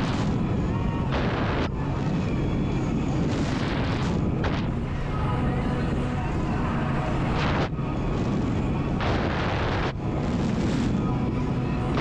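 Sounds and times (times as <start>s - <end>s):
boat running across water: 0.0s - 12.0s
wind rumble on microphone: 0.0s - 12.0s.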